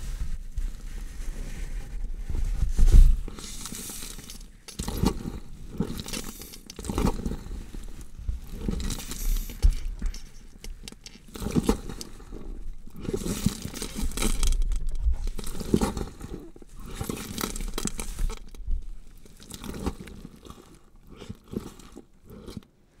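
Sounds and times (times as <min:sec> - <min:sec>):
wet crunching and tearing: 0:03.4 - 0:22.7.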